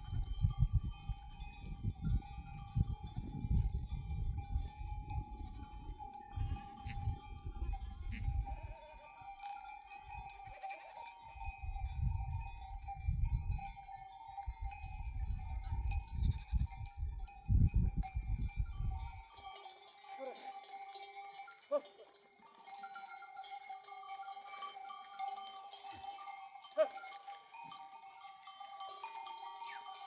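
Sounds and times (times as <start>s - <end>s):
sheep bells clanking: 0.0s - 30.0s.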